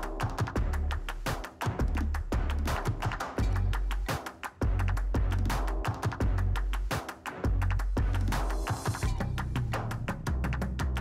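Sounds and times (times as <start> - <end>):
music with heavy bass and drums: 0.0 - 11.0.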